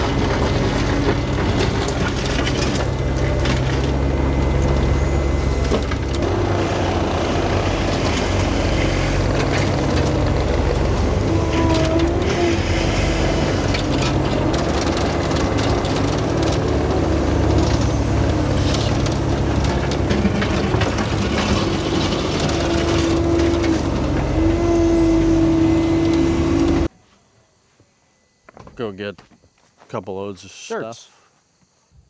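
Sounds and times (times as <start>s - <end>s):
construction machine engine running: 0.0s - 26.9s
hydraulic whine: 0.0s - 26.9s.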